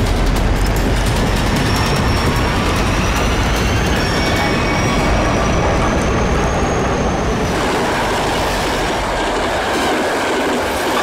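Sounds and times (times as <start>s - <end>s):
train wheels rumbling and rattling: 0.0s - 11.0s.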